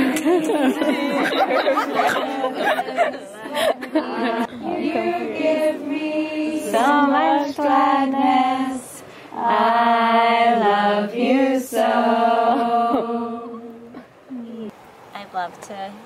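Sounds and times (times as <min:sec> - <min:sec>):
women singing a slow chant: 0:00.0 - 0:14.1.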